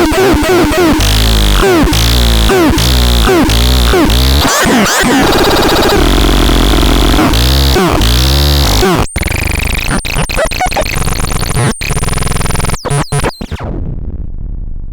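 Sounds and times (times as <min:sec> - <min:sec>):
synthesized buzzy sweeping tones: 0:00.0 - 0:13.8.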